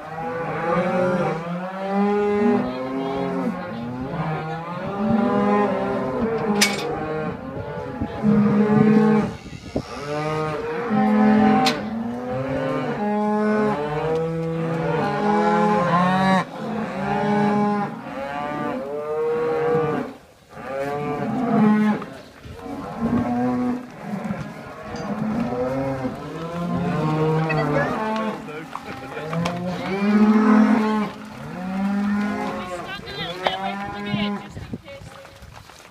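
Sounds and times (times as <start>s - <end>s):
cows and calves mooing: 0.0s - 34.7s.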